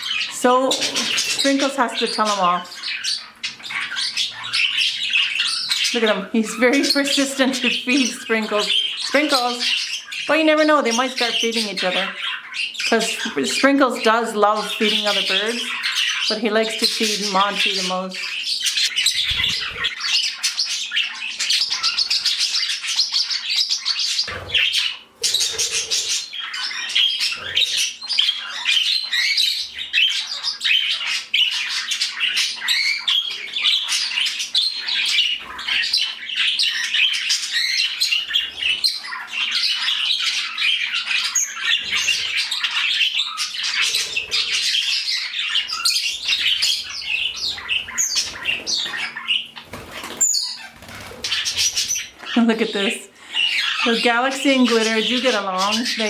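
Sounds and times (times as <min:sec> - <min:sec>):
birds chattering and squawking: 0:00.0 - 0:56.0.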